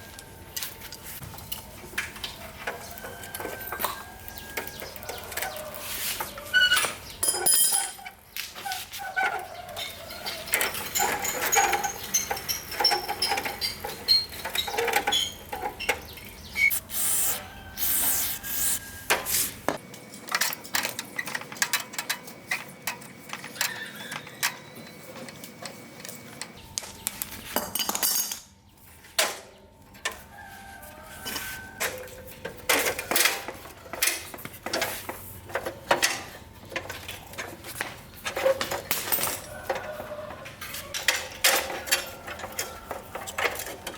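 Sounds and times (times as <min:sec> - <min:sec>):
metal bicycle parts and tools clinking: 0:00.0 - 0:19.5, 0:20.1 - 0:28.6, 0:29.2 - 0:43.9.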